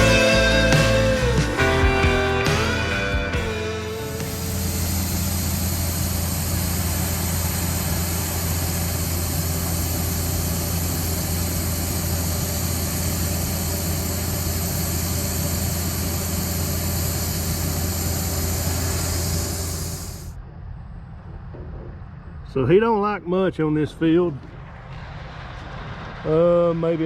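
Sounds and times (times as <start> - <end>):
combine harvester engine droning: 0.0 - 22.9.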